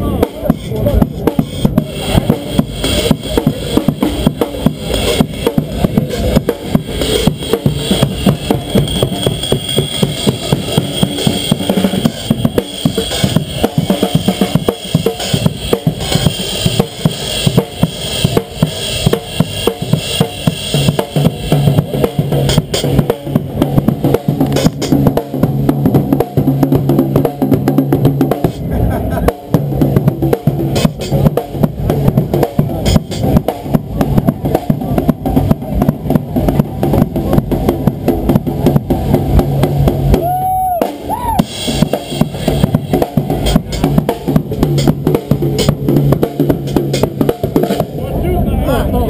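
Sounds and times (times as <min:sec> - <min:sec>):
drum kit fast groove: 0:00.0 - 0:49.0.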